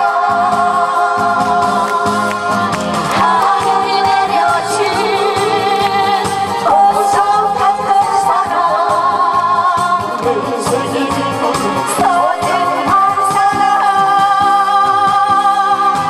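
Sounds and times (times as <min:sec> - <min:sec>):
backing music with beat: 0:00.0 - 0:16.0
live singing with vibrato: 0:00.0 - 0:16.0.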